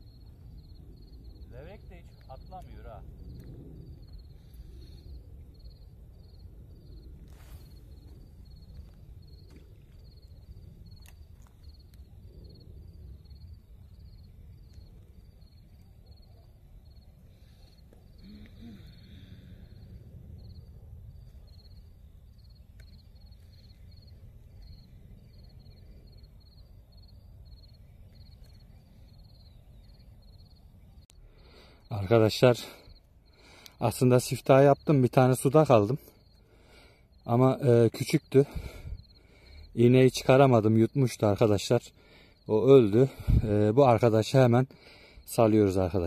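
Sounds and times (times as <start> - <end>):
cricket chirping: 0.0 - 46.0
low outdoor rumble: 0.0 - 46.0.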